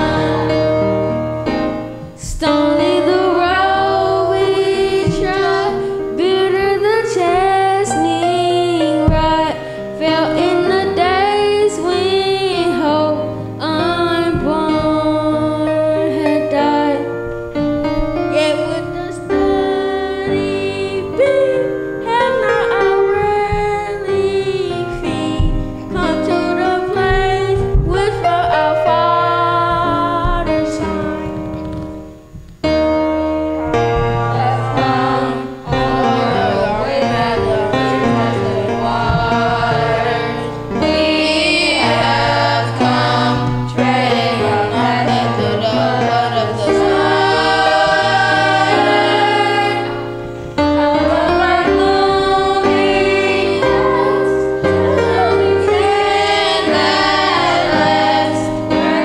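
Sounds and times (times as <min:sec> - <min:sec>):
children's choir singing: 0:00.0 - 0:17.1, 0:17.8 - 0:31.8, 0:33.5 - 0:59.0
instrumental accompaniment: 0:00.0 - 0:59.0.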